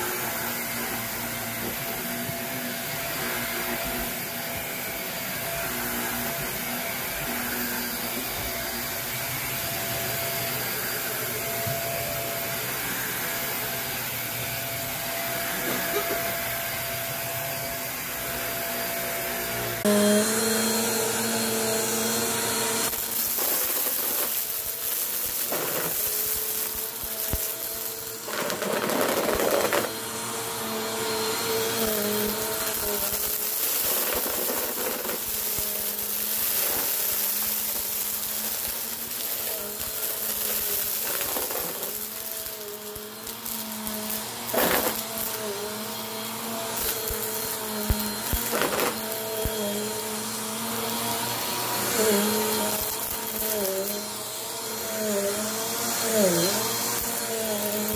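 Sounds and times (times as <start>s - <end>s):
vacuum cleaner motor whine: 0.0s - 57.9s.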